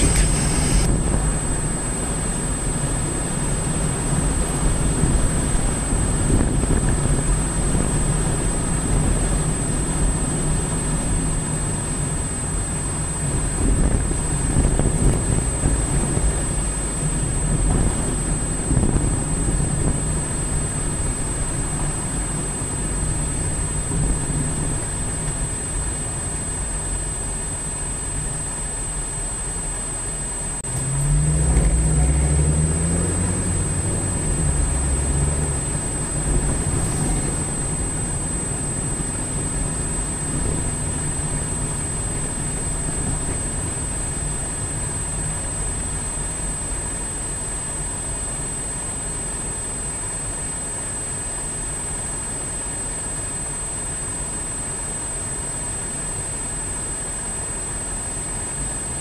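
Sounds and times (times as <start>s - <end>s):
car engine and road rumble: 0.0s - 59.0s
high-pitched whine: 0.0s - 59.0s.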